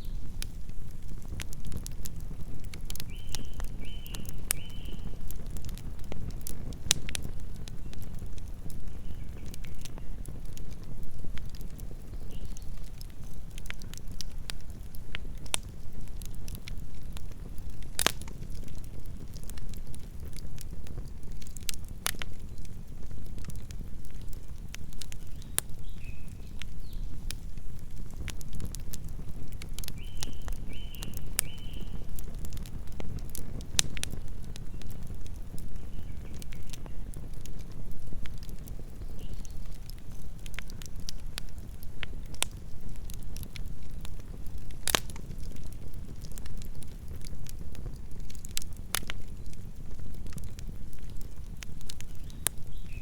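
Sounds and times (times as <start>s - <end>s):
burning wood crackling and popping: 0.0s - 53.0s
campfire flames rumbling: 0.0s - 53.0s.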